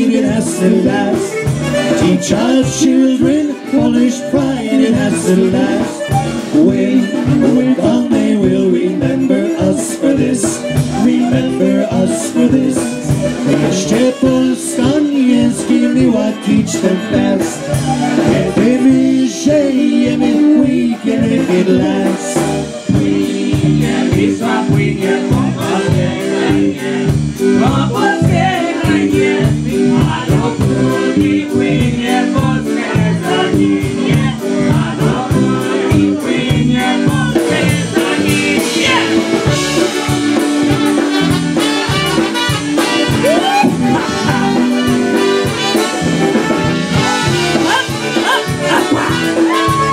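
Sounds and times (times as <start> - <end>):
concertina and accordion melody: 0.0 - 49.9
drum kit steady beat: 0.0 - 49.9
electric bass guitar: 0.0 - 49.9.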